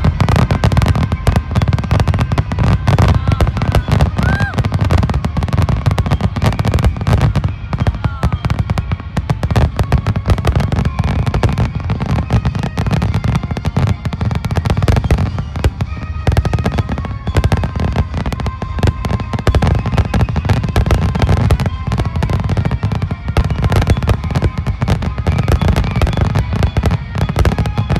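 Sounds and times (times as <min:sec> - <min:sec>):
fireworks bursting: 0:00.0 - 0:27.9.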